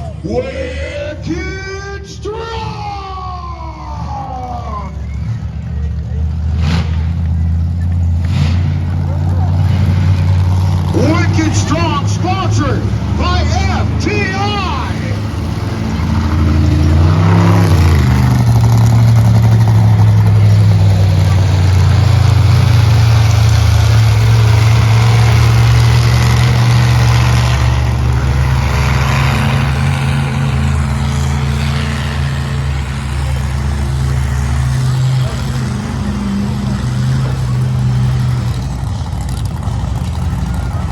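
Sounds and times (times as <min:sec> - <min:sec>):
toy truck engines revving: 0:04.0 - 0:40.9.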